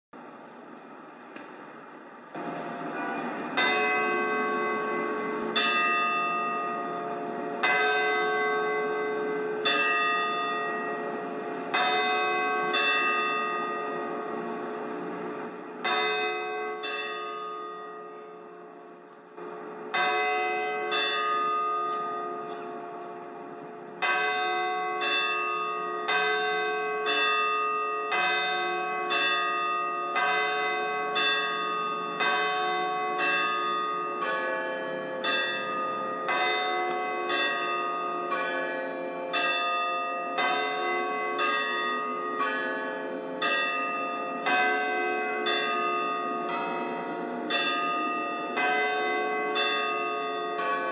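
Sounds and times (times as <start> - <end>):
church bells ringing: 2.3 - 50.9.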